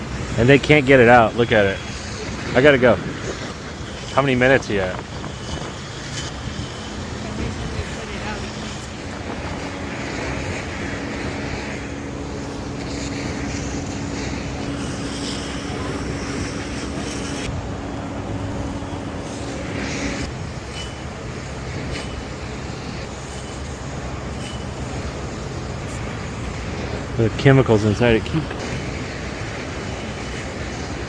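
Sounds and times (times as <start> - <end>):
steady hum: 0.0 - 31.0
traffic and engine noise: 0.0 - 31.0.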